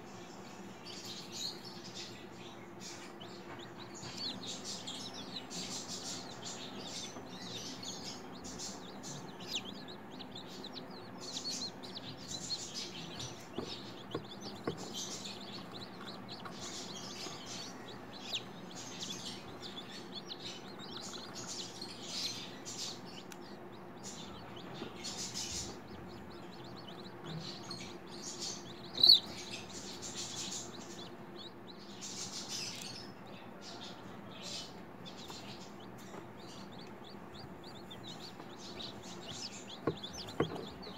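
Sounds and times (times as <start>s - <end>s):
chick peeping: 0.0s - 40.9s
steady low hum: 0.0s - 40.9s.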